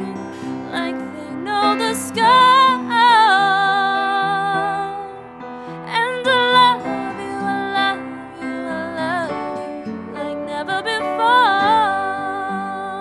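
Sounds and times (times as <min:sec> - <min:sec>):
soft instrumental accompaniment: 0:00.0 - 0:13.0
woman singing slow song: 0:00.0 - 0:13.0.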